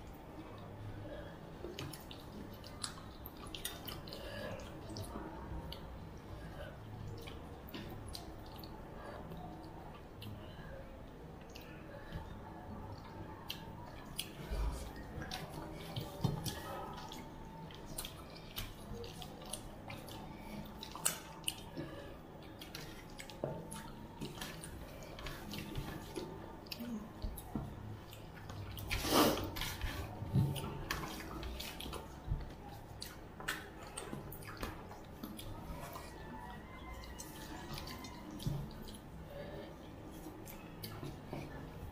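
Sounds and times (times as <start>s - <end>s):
people eating with fingers: 0.0s - 41.9s
mouth clicks and chewing: 1.6s - 6.0s, 7.0s - 10.6s, 11.4s - 41.9s.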